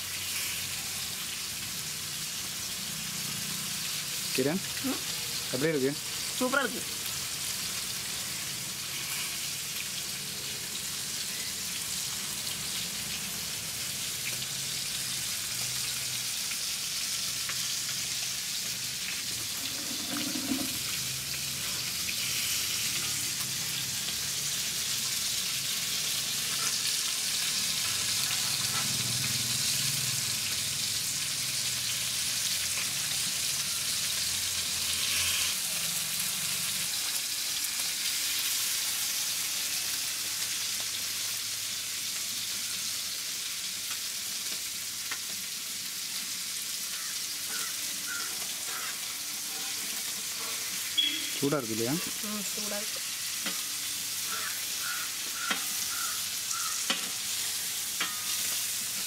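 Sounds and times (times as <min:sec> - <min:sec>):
oil sizzling in a pan: 0:00.0 - 0:59.0.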